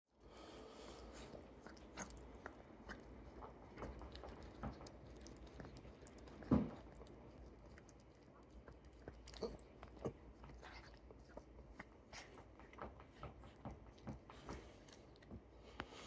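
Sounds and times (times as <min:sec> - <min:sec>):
dog licking wet smacks: 0:00.9 - 0:15.3.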